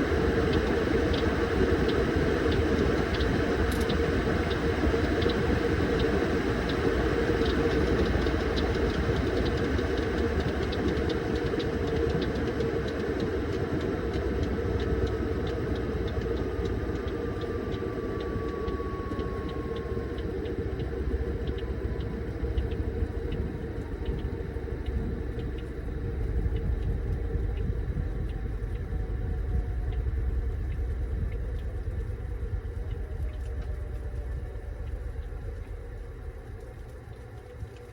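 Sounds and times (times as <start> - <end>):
faint falling whine: 0.0 - 37.9
fast light ticking: 0.0 - 37.9
washing machine rumble and hum: 0.0 - 37.9.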